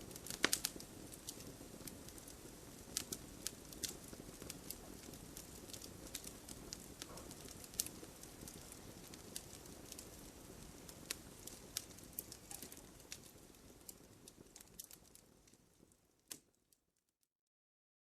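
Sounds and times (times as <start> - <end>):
campfire flames rushing: 0.0 - 16.5
wood crackling and popping: 0.0 - 16.8.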